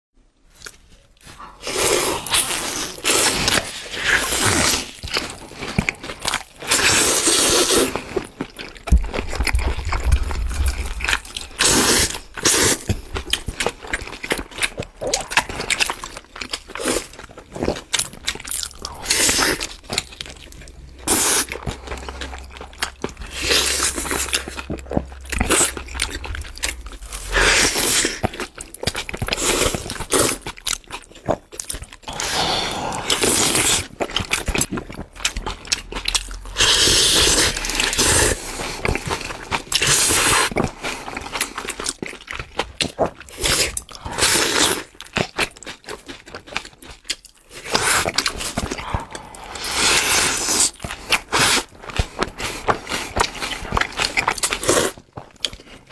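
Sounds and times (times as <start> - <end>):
crunchy bites and wet chewing: 0.5 - 55.9.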